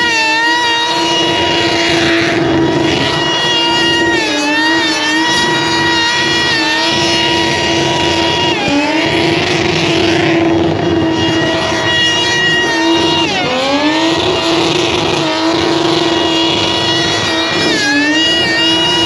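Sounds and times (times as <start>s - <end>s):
car engine revving high: 0.0s - 19.0s.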